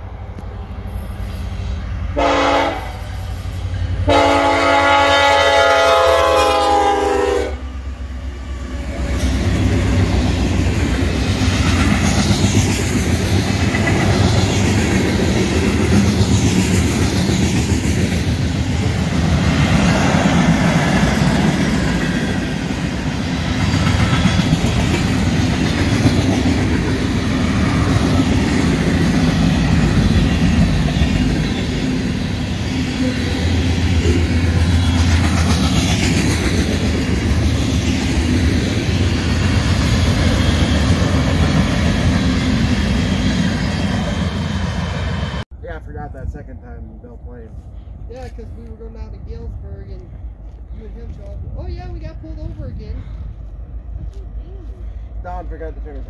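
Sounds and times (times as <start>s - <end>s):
train rolling past: 0.0s - 56.0s.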